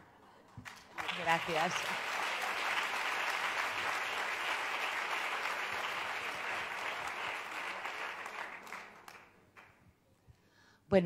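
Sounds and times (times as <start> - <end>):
large audience applauding: 0.6 - 9.8.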